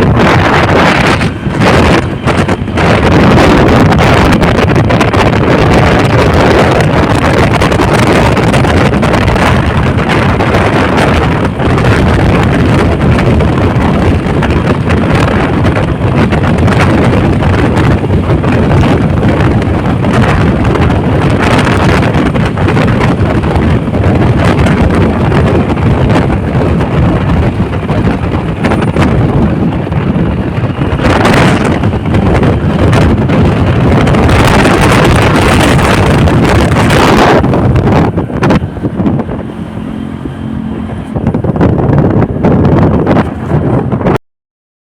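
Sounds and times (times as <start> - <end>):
wind rushing over microphone: 0.0 - 44.2.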